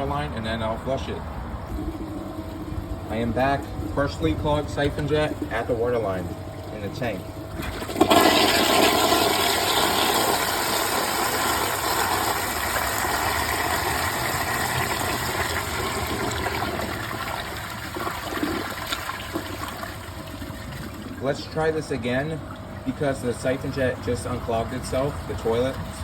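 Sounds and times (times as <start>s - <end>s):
toilet flushing: 1.0s - 26.0s.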